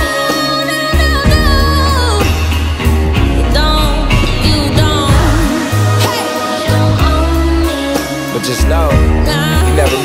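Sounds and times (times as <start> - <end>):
song with singing over bass: 0.0 - 10.0.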